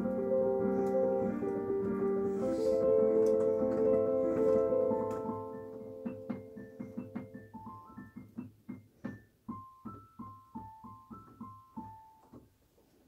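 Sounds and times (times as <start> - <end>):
digital piano played slowly: 0.0 - 12.6.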